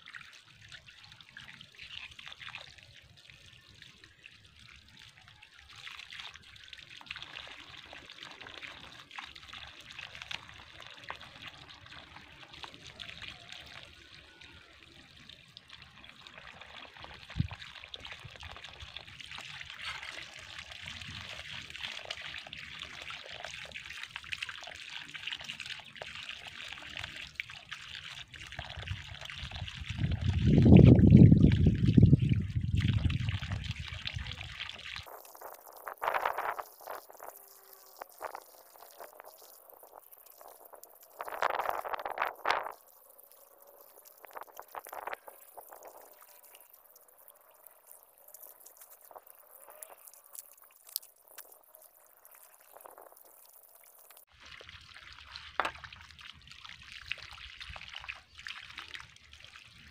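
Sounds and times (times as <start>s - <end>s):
water trickling from garden hose: 0.0s - 59.9s.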